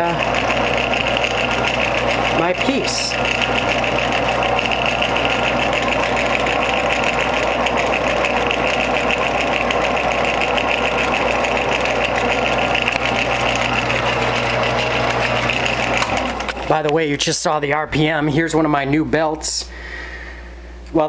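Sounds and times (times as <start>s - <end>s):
rattle of spinning drive: 0.0s - 17.1s
wood lathe motor hum: 0.0s - 17.1s.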